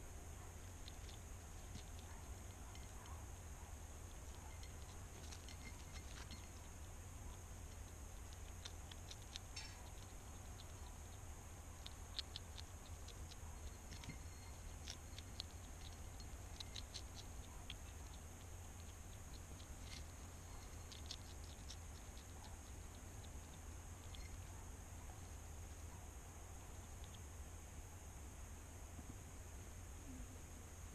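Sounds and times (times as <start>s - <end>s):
steady low hum: 0.0s - 30.9s
hedgehog crunching and smacking: 0.1s - 27.5s.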